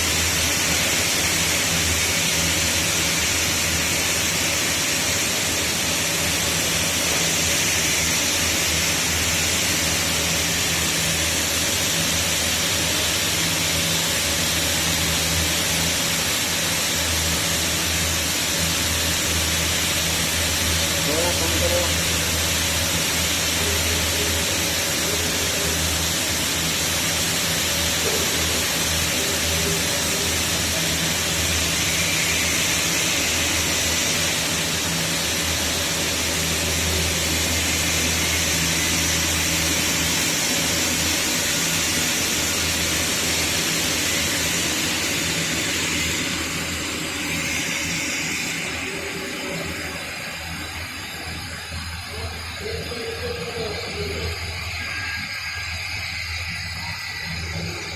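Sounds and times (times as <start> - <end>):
welding arc crackling hiss: 0.0 - 57.9.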